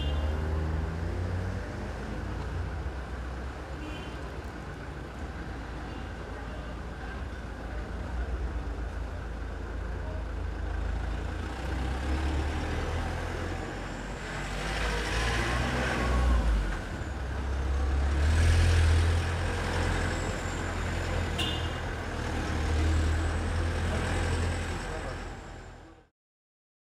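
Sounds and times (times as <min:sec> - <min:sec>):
road traffic rumble: 0:00.0 - 0:26.1.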